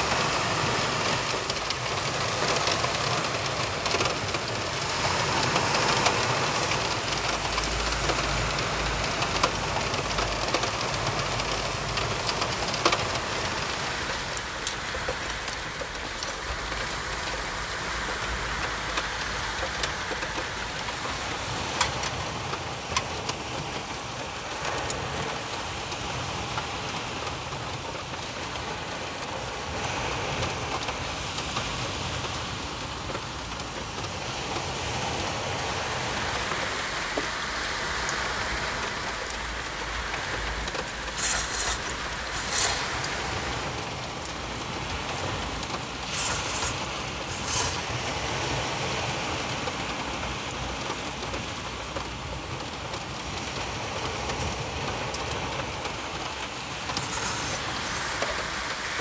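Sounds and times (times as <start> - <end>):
pouring rain: 0.0 - 59.0.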